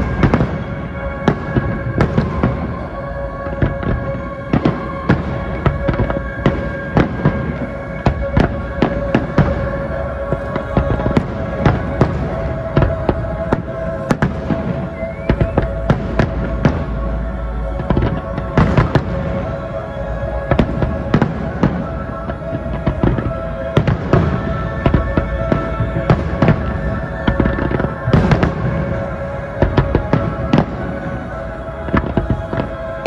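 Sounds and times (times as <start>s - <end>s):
music with held notes: 0.0s - 33.0s.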